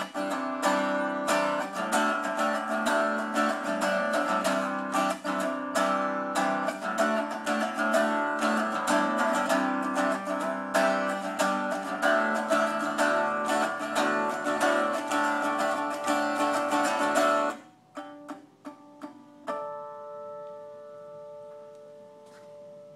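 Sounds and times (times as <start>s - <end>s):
unplugged electric guitar playing: 0.0s - 22.9s.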